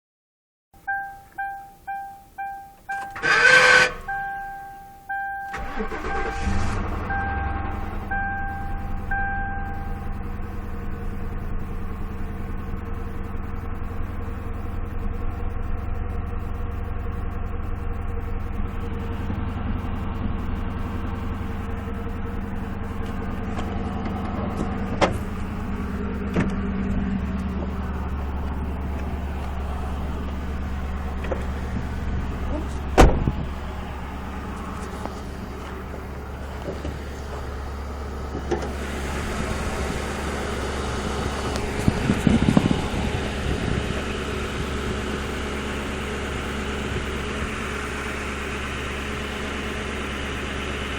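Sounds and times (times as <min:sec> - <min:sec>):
car engine idling: 0:00.8 - 0:50.9.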